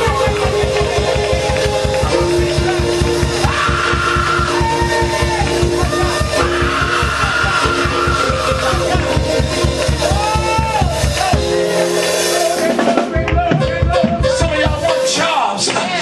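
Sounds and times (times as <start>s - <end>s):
fast drum beat: 0.0s - 15.7s
live praise music: 0.0s - 16.0s.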